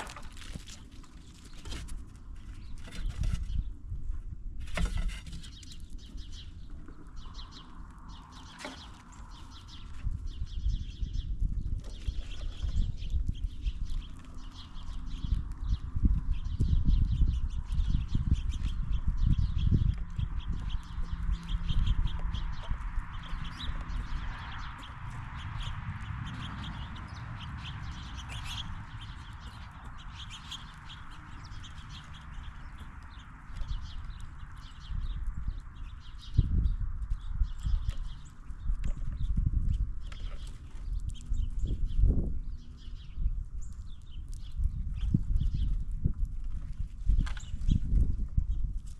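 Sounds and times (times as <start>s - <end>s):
ticks and scratches of animals feeding: 0.0s - 48.9s.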